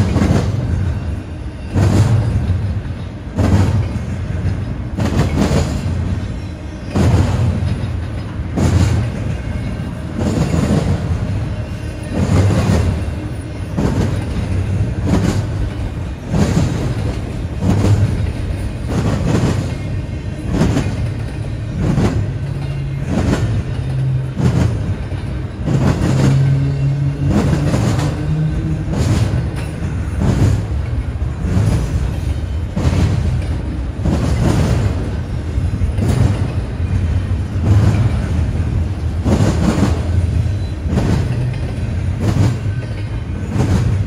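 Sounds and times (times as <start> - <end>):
rail car clacks: 0.0 - 44.0
train wheels rumbling on rail: 0.0 - 44.0.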